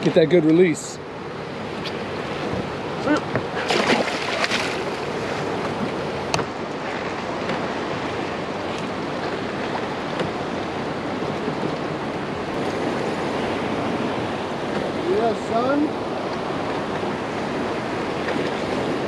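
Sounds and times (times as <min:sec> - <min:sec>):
sea water washing: 0:00.0 - 0:19.0.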